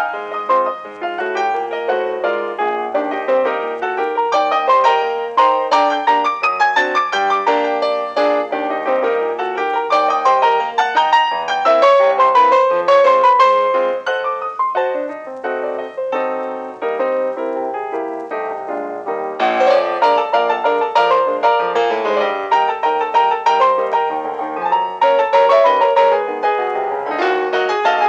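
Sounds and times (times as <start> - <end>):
bright piano melody: 0.0 - 28.0.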